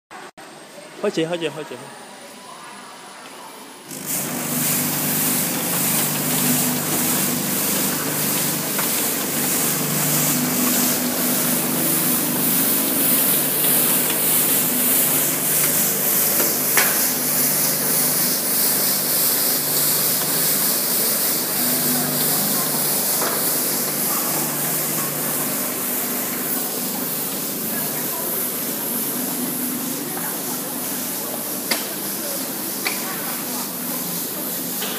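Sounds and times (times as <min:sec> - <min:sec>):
machine motors humming: 0:03.8 - 0:34.9
loud even hiss: 0:03.9 - 0:34.9.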